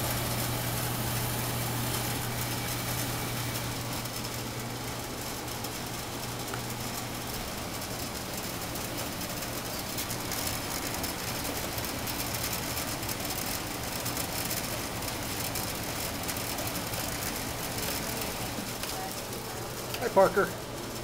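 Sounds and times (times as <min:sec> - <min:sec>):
constant hiss: 0:00.0 - 0:21.0
low mechanical hum: 0:00.0 - 0:21.0.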